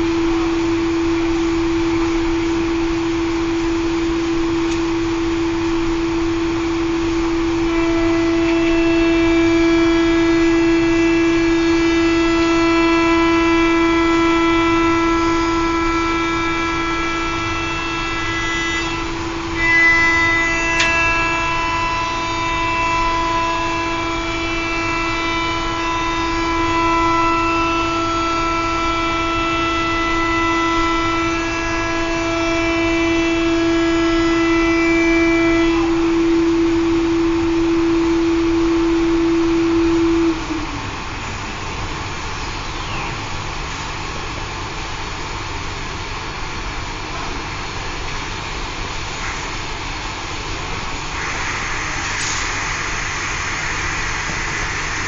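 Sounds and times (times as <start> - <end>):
circulation pump humming: 0.0 - 55.0.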